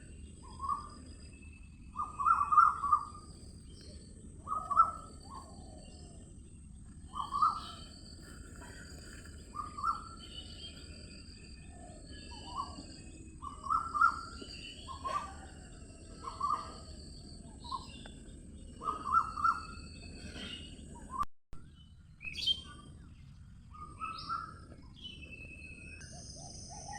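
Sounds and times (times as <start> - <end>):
birds singing and calling: 0.0 - 26.9.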